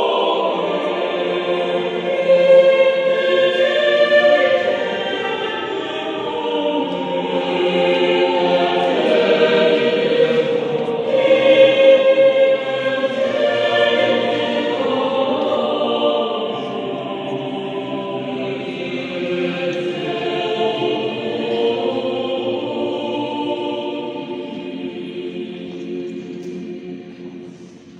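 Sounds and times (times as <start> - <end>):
church choir singing: 0.0 - 27.9.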